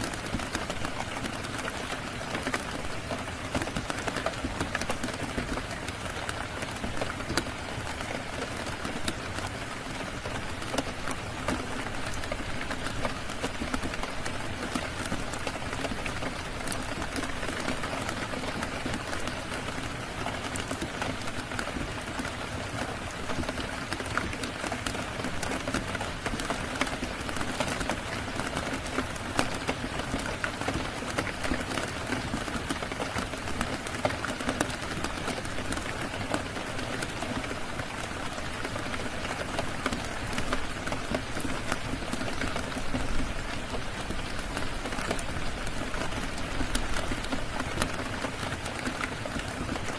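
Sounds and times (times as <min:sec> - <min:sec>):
rain falling on a surface: 0:00.0 - 0:49.9.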